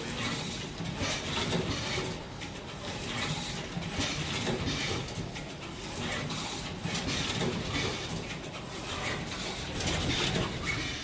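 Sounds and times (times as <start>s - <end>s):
machine clicking and whirring: 0.0s - 11.0s.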